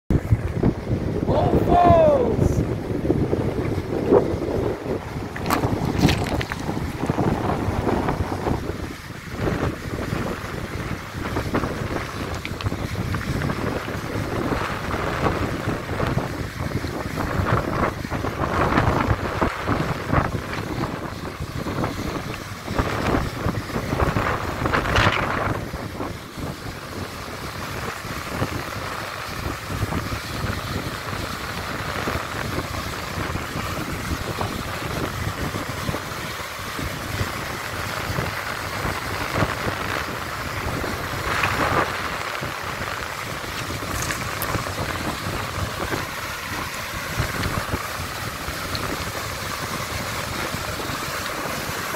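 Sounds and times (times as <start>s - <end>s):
stream rushing over rocks: 0.1s - 51.9s
wind buffeting microphone: 0.1s - 51.9s.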